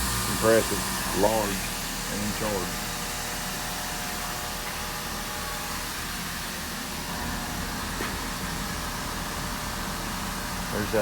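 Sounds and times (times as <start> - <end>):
air compressor humming and hissing: 0.0 - 11.0.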